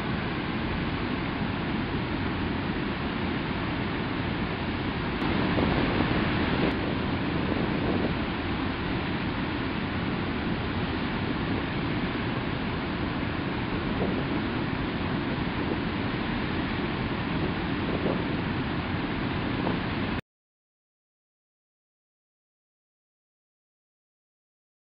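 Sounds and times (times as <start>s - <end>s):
stream water rushing: 0.0s - 20.2s.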